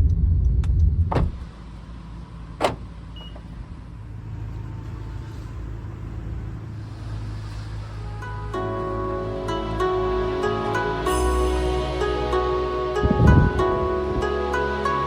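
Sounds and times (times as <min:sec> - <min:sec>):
engine humming at idle: 0:00.0 - 0:15.0
van road rumble: 0:00.0 - 0:15.0.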